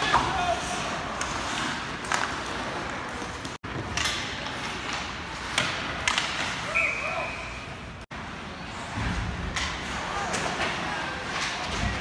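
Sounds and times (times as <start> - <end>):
skates and arena noise: 0.0 - 12.0.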